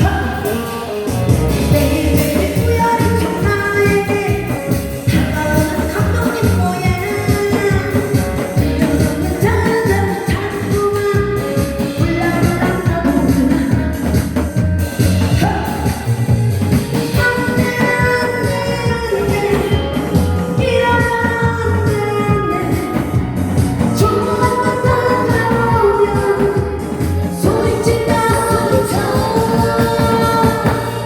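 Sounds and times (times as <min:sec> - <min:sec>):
person singing: 0:00.0 - 0:14.4, 0:17.1 - 0:23.2, 0:23.8 - 0:31.0
backing music with steady beat: 0:00.0 - 0:31.0.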